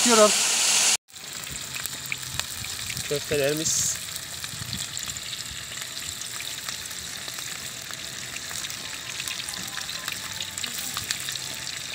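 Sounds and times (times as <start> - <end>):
meatballs sizzling in oil: 0.0 - 11.9
oil popping and crackling: 0.8 - 11.9.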